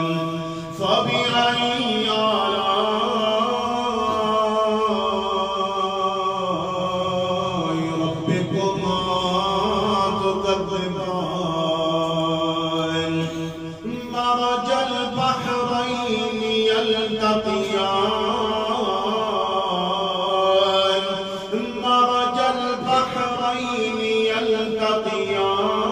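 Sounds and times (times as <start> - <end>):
man reciting melodically: 0.0 - 25.9.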